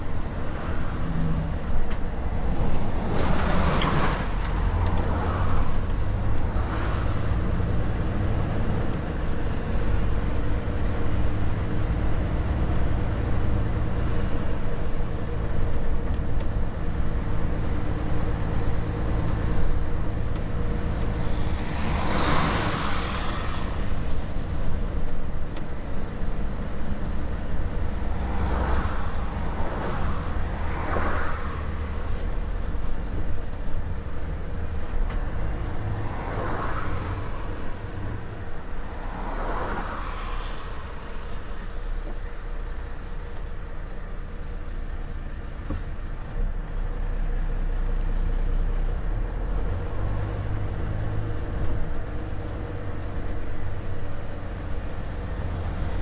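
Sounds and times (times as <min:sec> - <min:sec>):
truck engine and road drone: 0:00.0 - 0:56.0.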